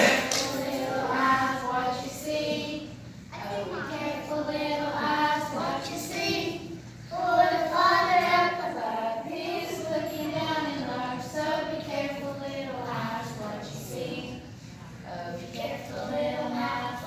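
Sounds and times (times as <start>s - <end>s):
young children singing: 0.0s - 17.0s.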